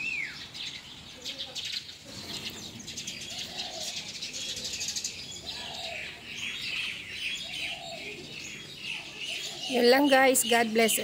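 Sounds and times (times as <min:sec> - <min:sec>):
small birds chirping: 0:00.0 - 0:11.0
low cooing calls: 0:01.3 - 0:10.7.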